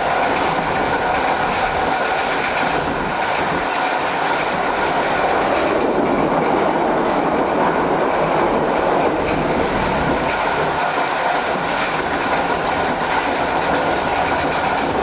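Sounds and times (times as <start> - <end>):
wheels clicking over rail joints: 0.0 - 7.3, 8.3 - 15.0
train rolling rumble: 0.0 - 15.0.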